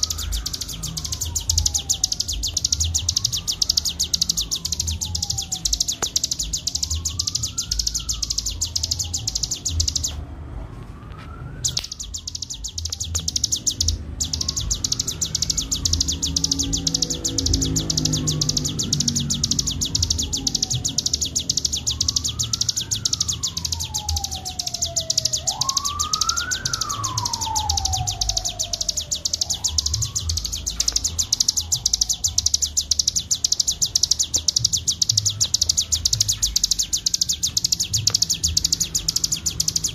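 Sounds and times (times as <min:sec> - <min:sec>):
songbird high-pitched rattling trill: 0:00.0 - 0:10.2, 0:11.7 - 0:39.9
siren wailing: 0:00.0 - 0:39.9.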